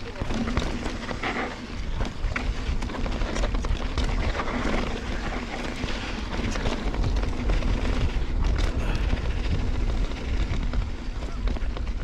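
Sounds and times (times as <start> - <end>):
bike rattling and knocking: 0.0 - 12.0
wind rumble on microphone: 0.0 - 12.0.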